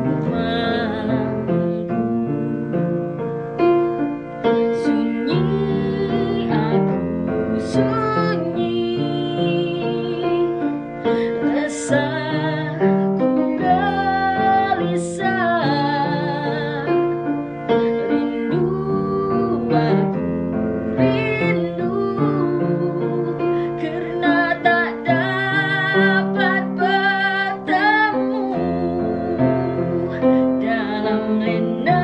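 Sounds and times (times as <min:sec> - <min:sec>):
woman singing: 0:00.0 - 0:02.5, 0:03.8 - 0:32.0
piano accompaniment: 0:00.0 - 0:32.0.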